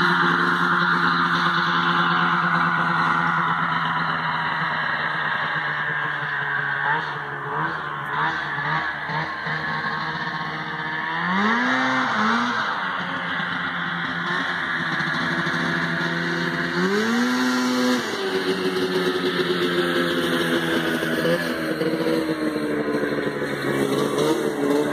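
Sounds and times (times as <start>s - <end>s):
quad engine revving: 0.0s - 24.9s.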